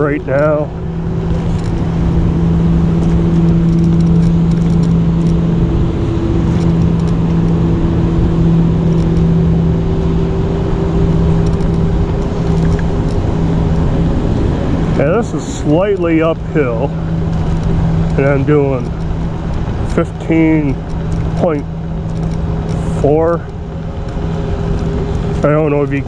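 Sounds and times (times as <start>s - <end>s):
electric scooter motor whining: 0.0s - 26.0s
wind buffeting microphone: 0.0s - 26.0s.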